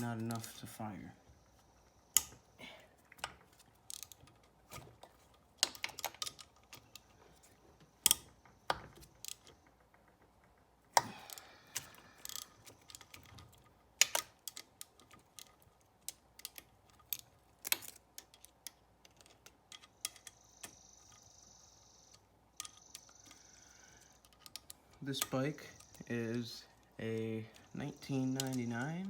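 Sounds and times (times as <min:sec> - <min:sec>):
hand tools clicking: 0:02.2 - 0:09.6, 0:10.9 - 0:21.3, 0:22.0 - 0:29.0.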